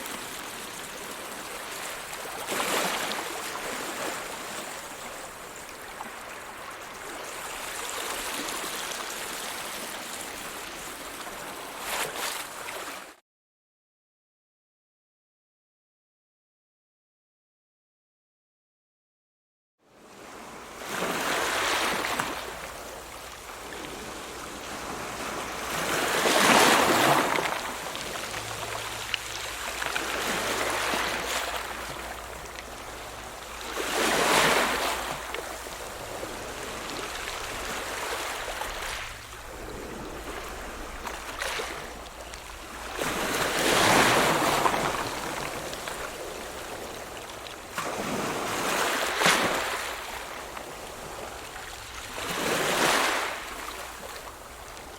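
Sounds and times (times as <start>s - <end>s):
ocean waves crashing: 0.0s - 12.2s, 20.8s - 54.1s.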